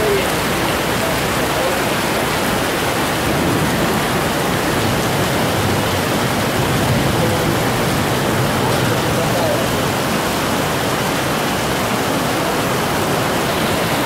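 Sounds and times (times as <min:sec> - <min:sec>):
heavy rain on paving: 0:00.0 - 0:14.0.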